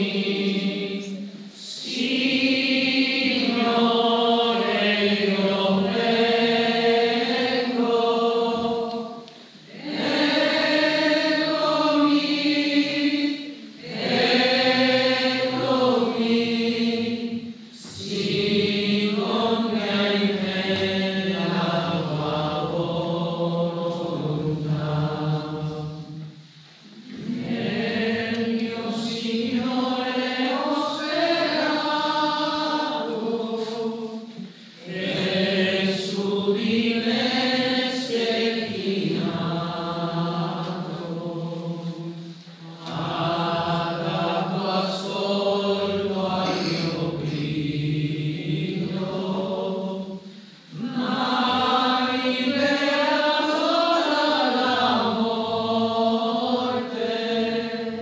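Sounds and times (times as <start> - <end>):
voices singing a hymn: 0.0 - 58.0.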